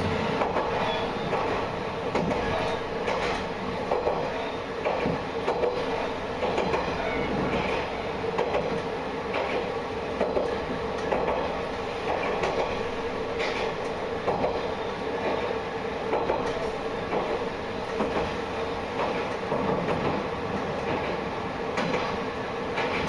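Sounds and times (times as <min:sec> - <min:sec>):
railcar running noise: 0:00.0 - 0:23.0
wheels clicking over rail joints: 0:00.4 - 0:12.8, 0:13.4 - 0:23.0.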